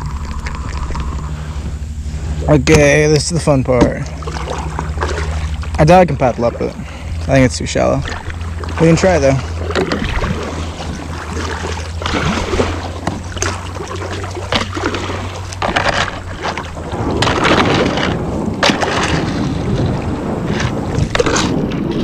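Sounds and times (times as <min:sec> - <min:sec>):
paddle strokes splashing: 0:00.0 - 0:22.0
shallow river water rushing: 0:00.0 - 0:22.0.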